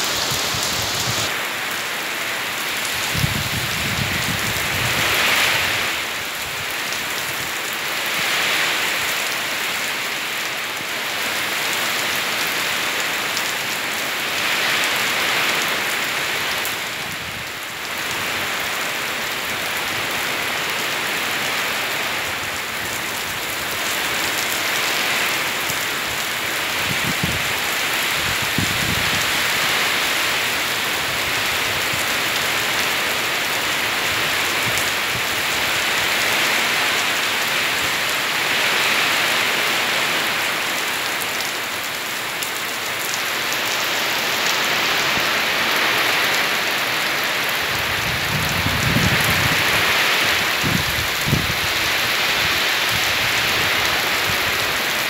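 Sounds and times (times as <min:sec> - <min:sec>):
heavy rain on foliage: 0:00.0 - 0:55.0.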